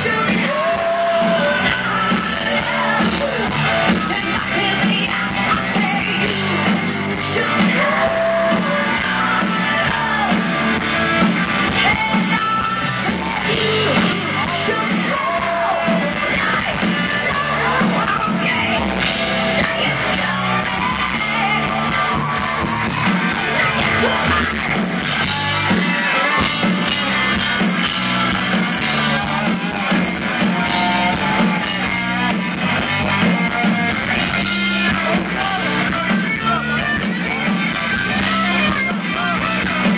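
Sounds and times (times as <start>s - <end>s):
electric guitar: 0.0s - 39.9s
live rock band playing: 0.0s - 39.9s
person singing: 0.0s - 39.9s.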